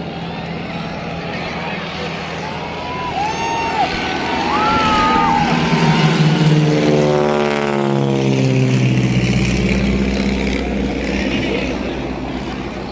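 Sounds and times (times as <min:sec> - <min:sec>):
military aircraft flying low past: 0:00.0 - 0:12.9.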